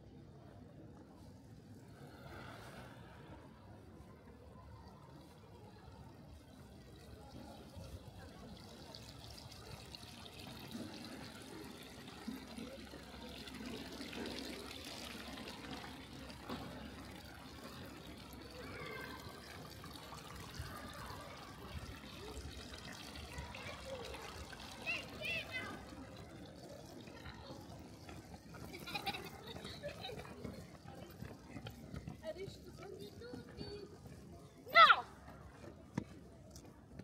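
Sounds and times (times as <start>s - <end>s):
water trickling and splashing: 1.7s - 35.6s.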